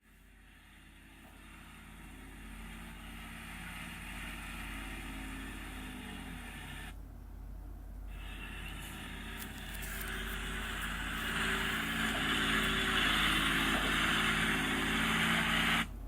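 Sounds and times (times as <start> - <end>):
heavy diesel engine running: 0.0 - 7.1, 8.1 - 16.0.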